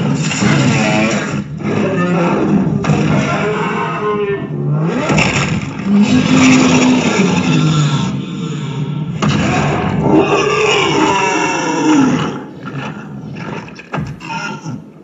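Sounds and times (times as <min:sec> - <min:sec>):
monster roaring and growling: 0:00.0 - 0:15.0.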